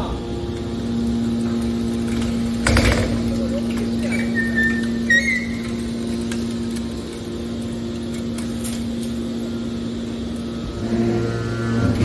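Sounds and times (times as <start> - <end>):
hydraulic baler humming: 0.0 - 12.0.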